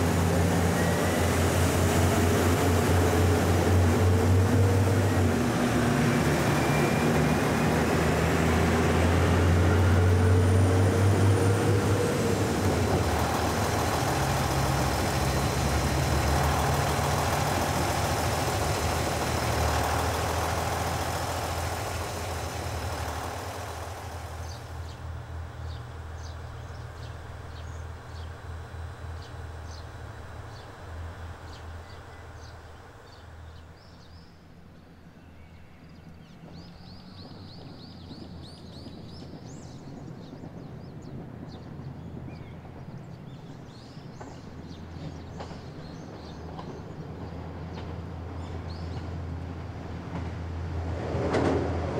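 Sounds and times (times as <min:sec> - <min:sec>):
diesel train pulling out: 0:00.0 - 0:51.9
low idling train engine hum: 0:00.0 - 0:51.9.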